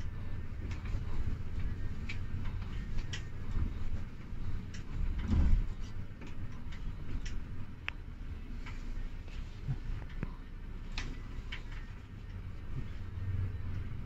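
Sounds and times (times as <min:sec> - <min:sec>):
coach engine rumble: 0:00.0 - 0:14.0.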